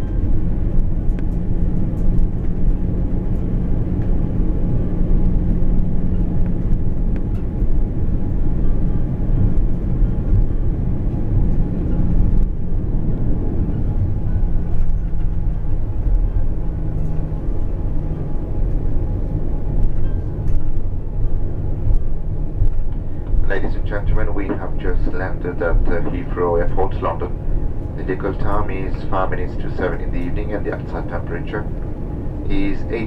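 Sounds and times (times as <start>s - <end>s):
humming tone stepping down: 0.0s - 33.0s
low rumble of wheels and engines: 0.0s - 33.0s.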